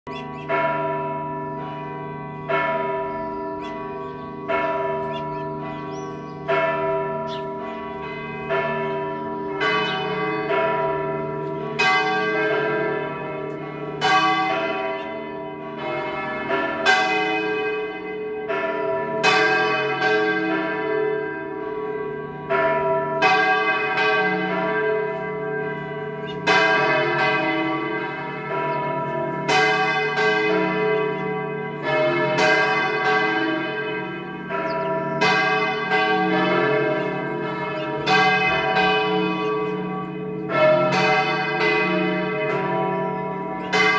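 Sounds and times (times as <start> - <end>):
church bells pealing: 0.1 - 43.9
low hum of big bells: 0.1 - 43.9.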